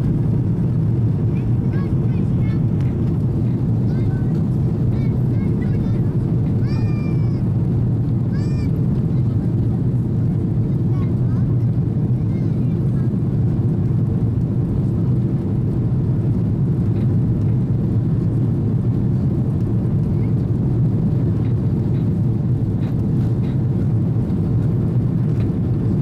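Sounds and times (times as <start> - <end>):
jet engines rumbling in cabin: 0.0 - 26.0
rushing air: 0.0 - 26.0.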